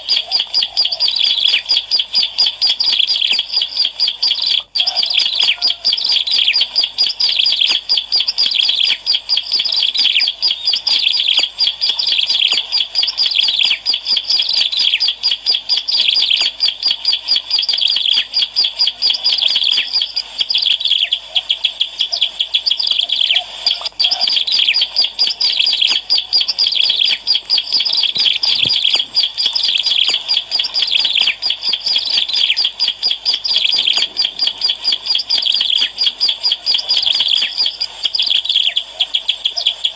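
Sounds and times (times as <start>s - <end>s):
bird chirping and trilling: 0.0s - 21.2s, 22.1s - 38.8s.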